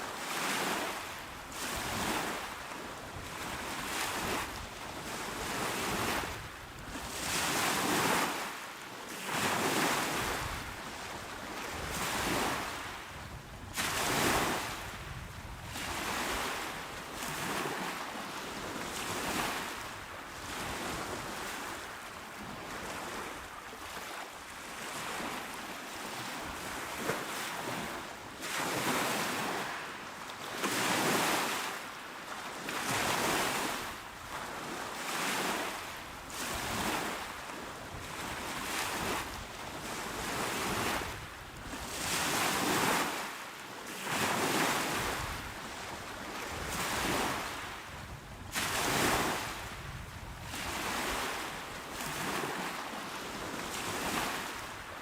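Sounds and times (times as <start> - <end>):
small waves breaking on shore: 0.0 - 55.0.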